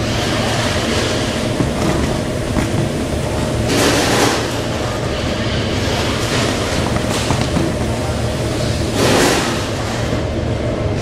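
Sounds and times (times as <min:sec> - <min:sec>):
machinery rumble and clatter: 0:00.0 - 0:11.0.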